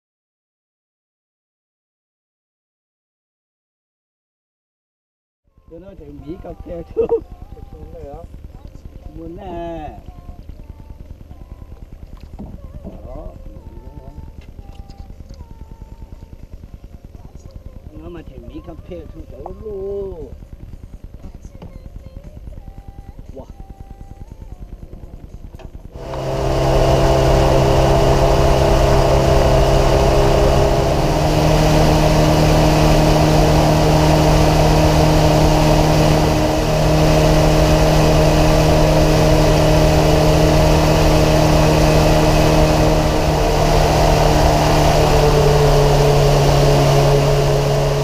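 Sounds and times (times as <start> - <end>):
outboard motor running: 5.7 - 48.0.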